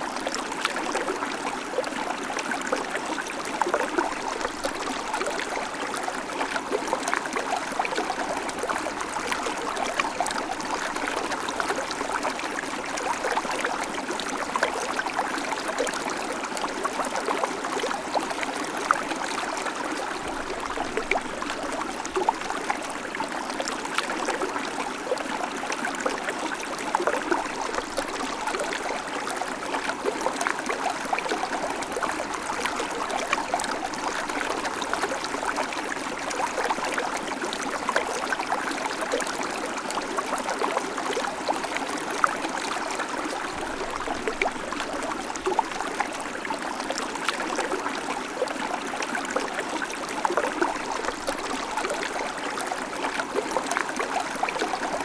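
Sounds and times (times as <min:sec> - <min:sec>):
creek water over stones: 0:00.0 - 0:55.0.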